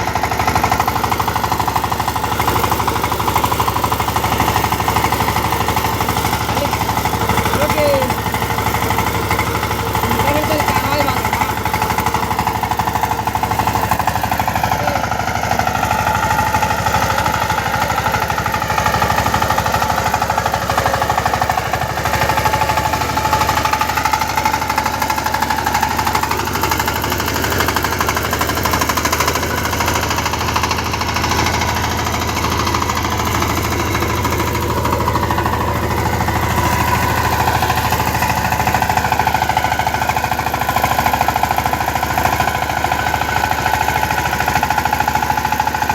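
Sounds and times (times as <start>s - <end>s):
power tiller engine chugging: 0.0s - 45.9s.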